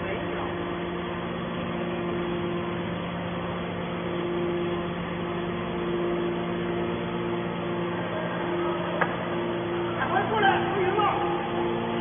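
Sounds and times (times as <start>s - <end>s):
hydraulic pump motor humming: 0.0s - 12.0s.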